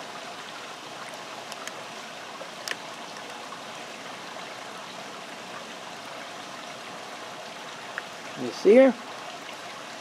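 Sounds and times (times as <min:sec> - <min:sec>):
running water: 0:00.0 - 0:10.0.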